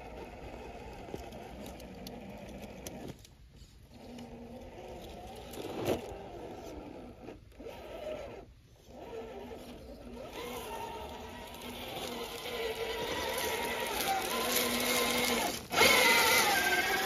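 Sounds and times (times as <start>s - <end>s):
rc truck electric motor whining: 0.0s - 17.0s.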